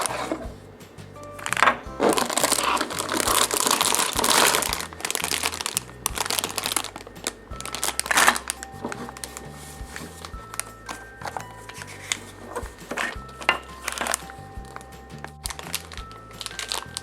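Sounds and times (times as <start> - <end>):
packaging crinkling and rustling: 1.5 - 17.0.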